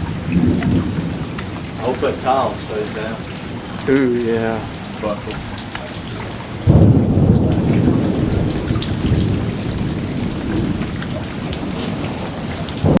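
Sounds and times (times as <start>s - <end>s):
deep rumble of thunder: 0.0s - 3.9s, 4.6s - 13.0s
heavy rain falling: 0.0s - 13.0s.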